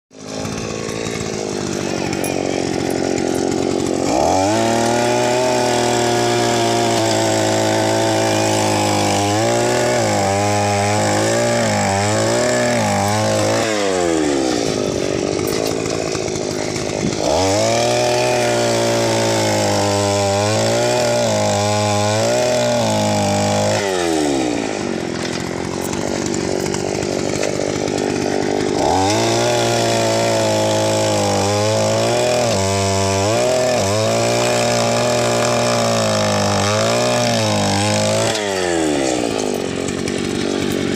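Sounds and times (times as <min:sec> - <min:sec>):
earth auger engine revving: 0:00.1 - 0:40.9.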